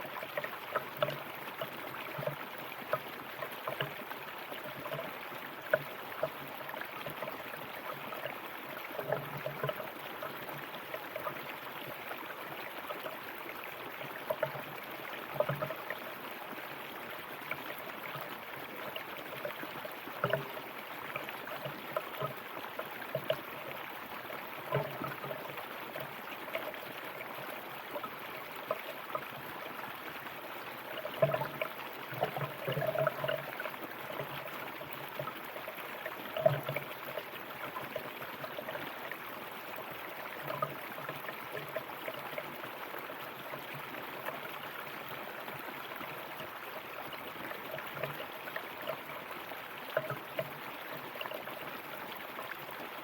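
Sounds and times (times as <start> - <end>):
river water babbling over stones: 0.0 - 53.0.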